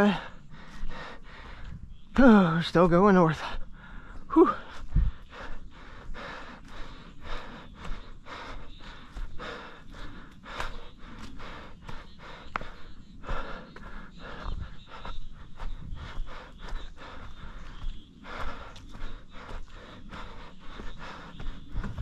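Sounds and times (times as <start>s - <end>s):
heavy breathing while running: 0.0s - 22.0s.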